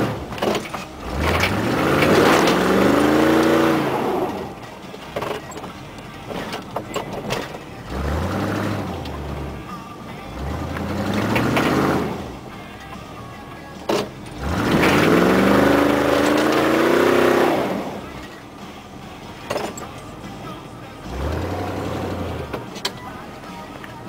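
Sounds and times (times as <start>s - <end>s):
vehicle engine revving: 0.0s - 12.6s, 13.8s - 18.4s, 19.5s - 22.8s.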